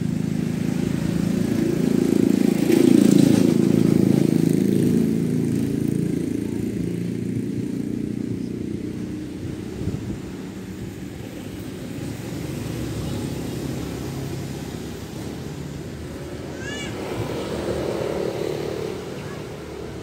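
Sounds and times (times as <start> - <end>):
engine passing by: 0.0 - 20.0.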